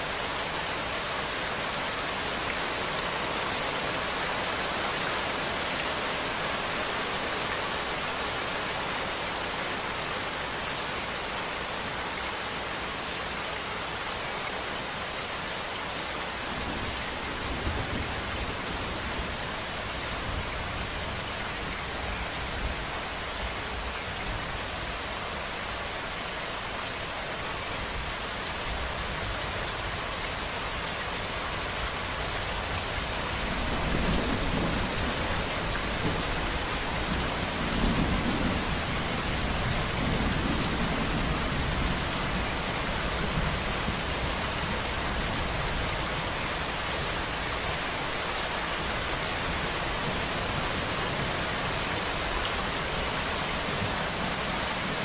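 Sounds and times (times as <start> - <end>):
rain on a surface: 0.0 - 55.0.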